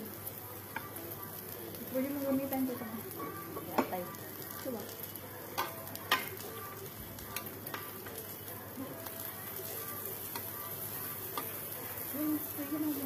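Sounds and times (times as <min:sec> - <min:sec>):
pork sizzling on a grill plate: 0:00.0 - 0:13.0.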